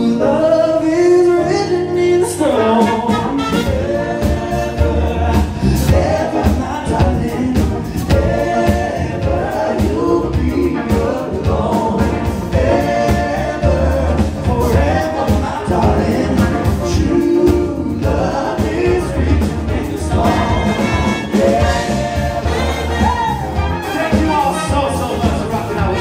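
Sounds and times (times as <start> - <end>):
bass: 0.0 - 26.0
voices singing together: 0.0 - 26.0
steady drum beat: 2.8 - 26.0.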